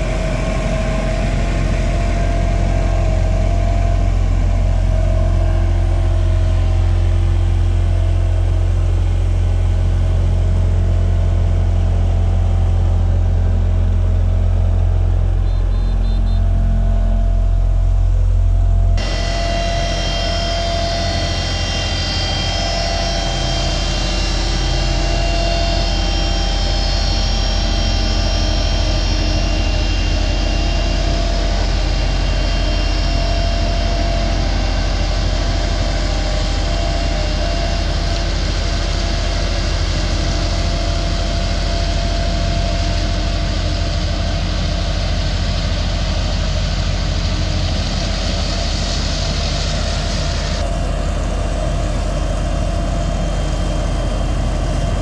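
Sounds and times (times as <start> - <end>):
diesel engine deep rumble: 0.0 - 55.0.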